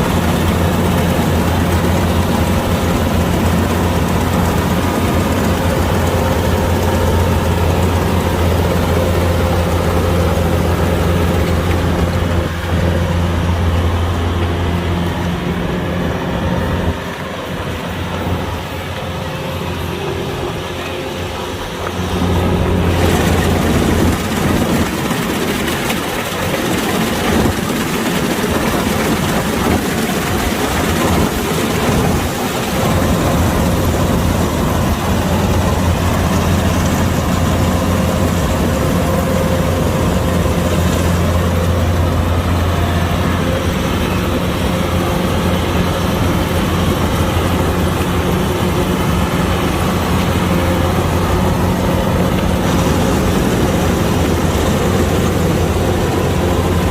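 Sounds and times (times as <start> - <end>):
combine harvester engine humming: 0.0 - 56.9.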